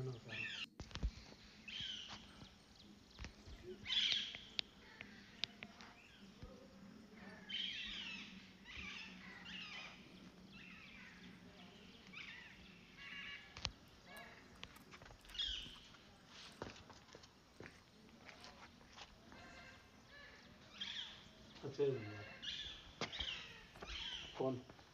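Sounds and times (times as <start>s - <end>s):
birds chirping: 0.0s - 24.9s.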